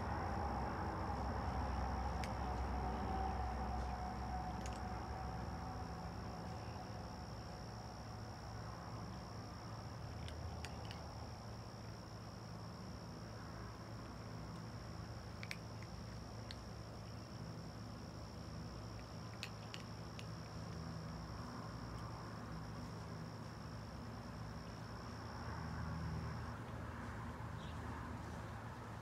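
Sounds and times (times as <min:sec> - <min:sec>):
crickets trilling: 0:00.0 - 0:29.0
low background rumble: 0:00.0 - 0:29.0.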